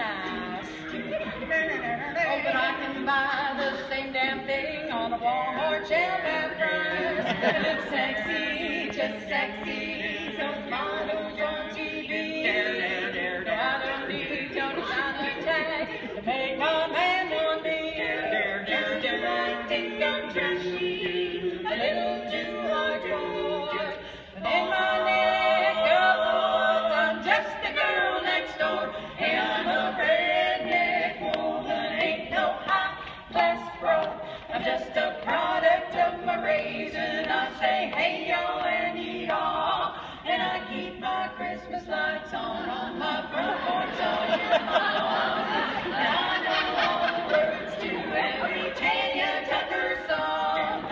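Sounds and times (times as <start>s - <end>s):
women singing a cappella: 0.0s - 50.9s.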